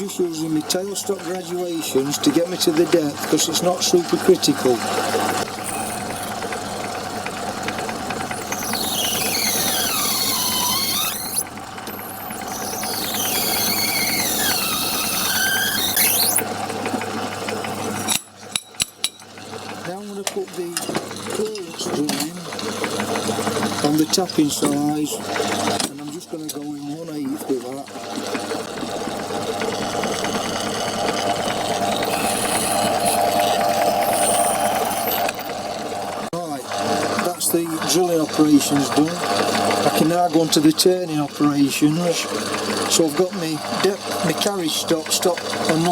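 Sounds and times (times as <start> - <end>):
tapping drill squealing: 0.0 - 16.6, 19.9 - 26.6, 28.4 - 45.9
lathe humming: 0.0 - 18.1, 20.5 - 26.2, 27.9 - 45.9.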